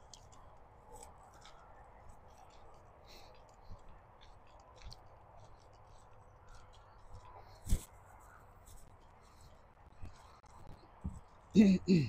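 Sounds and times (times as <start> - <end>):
soft ticks and clicks: 0.0 - 11.5.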